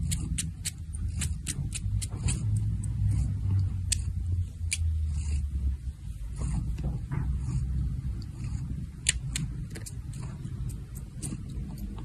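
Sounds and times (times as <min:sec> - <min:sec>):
cat purring: 0:00.0 - 0:12.0
cat sucking on paw: 0:00.0 - 0:12.0.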